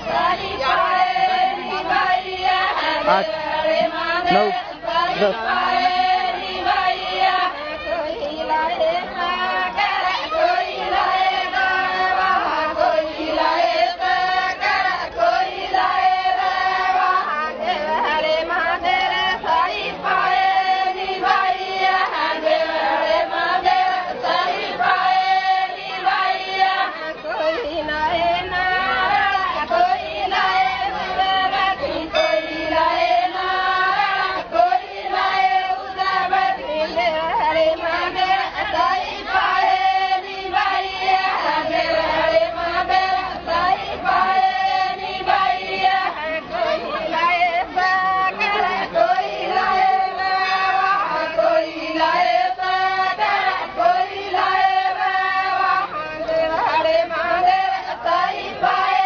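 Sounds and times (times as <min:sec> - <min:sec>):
women singing in unison: 0:00.0 - 0:59.0.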